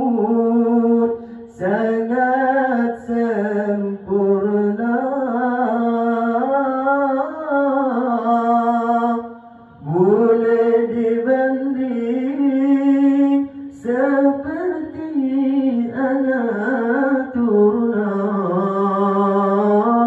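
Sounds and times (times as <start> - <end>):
man chanting through a microphone: 0.0 - 20.0.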